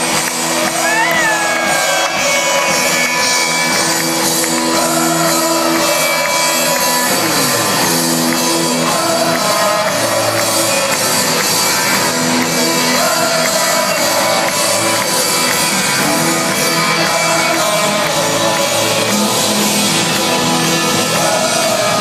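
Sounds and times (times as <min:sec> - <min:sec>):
crowd shouting and singing: 0:00.0 - 0:22.0
rock band playing live: 0:00.0 - 0:22.0.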